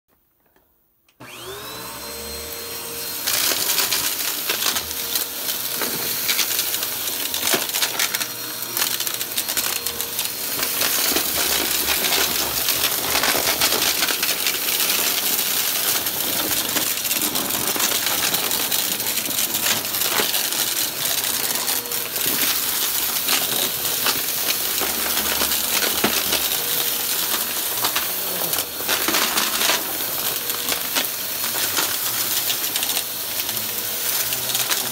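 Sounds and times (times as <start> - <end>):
vacuum cleaner motor whine: 1.1 - 34.9
debris rattling in vacuum: 1.2 - 34.9.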